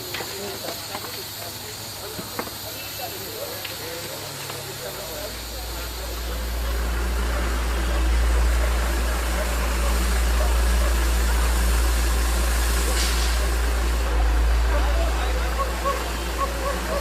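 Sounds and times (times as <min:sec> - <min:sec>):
engine low rumble: 0:03.2 - 0:17.0.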